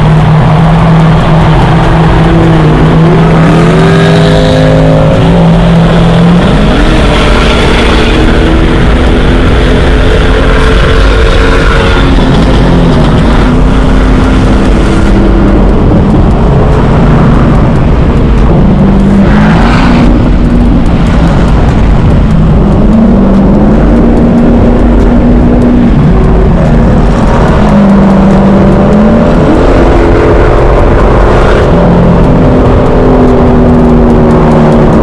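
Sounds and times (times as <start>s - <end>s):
car engine accelerating hard: 0.0s - 35.0s
road and wind noise: 0.0s - 35.0s.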